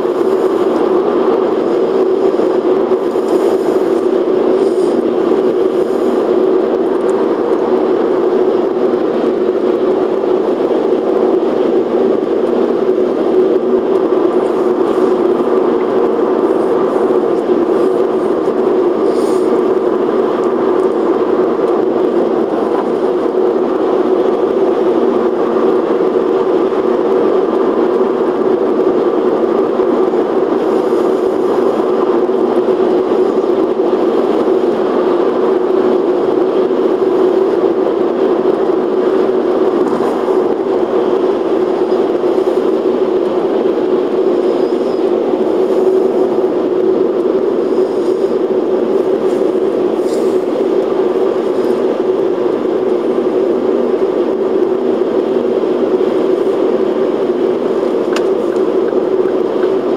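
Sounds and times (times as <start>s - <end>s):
car road noise drone: 0.0s - 59.9s.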